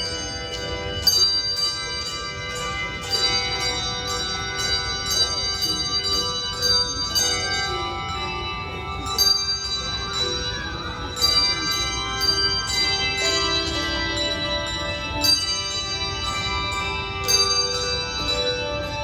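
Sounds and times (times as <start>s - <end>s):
handbell chords ringing: 0.0s - 19.0s.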